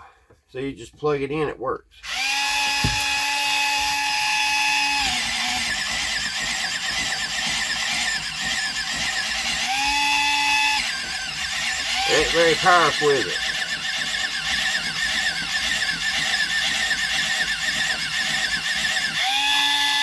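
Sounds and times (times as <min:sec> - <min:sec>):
pencil sharpener grinding: 0:02.0 - 0:20.0
pencil sharpener motor whine: 0:02.0 - 0:20.0.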